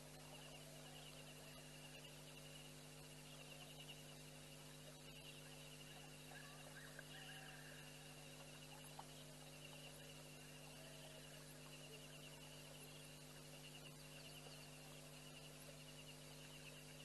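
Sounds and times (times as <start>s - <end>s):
electrical hum: 0.0s - 17.0s
insect trill: 0.0s - 17.0s.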